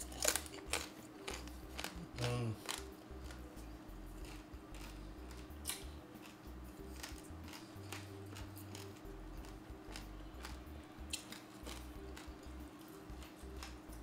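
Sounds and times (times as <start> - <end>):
chewing crispy skin: 0.0 - 14.0
faint hum: 0.0 - 14.0.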